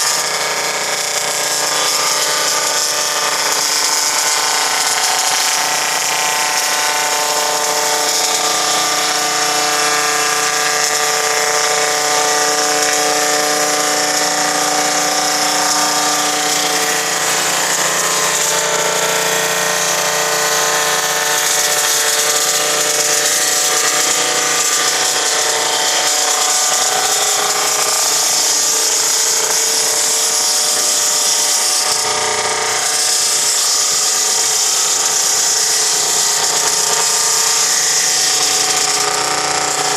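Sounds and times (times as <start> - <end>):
sawmill machine noise: 0.0 - 39.9.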